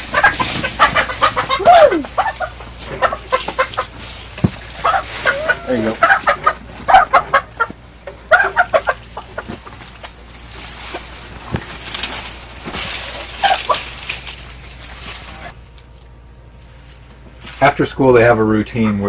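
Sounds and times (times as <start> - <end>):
chickens clucking and squawking: 0.0 - 16.0, 18.2 - 19.0.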